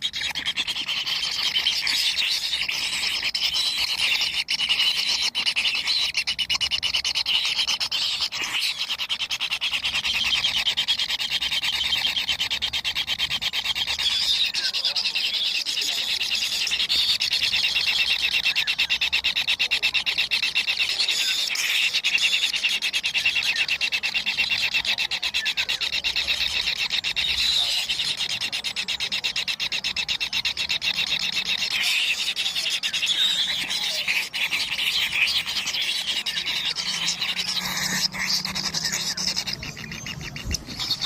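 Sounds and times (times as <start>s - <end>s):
bird chicks begging trill: 0.0s - 41.0s.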